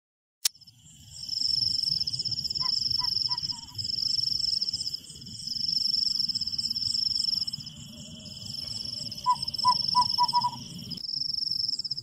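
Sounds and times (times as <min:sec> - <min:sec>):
crickets trilling: 0:00.6 - 0:12.0.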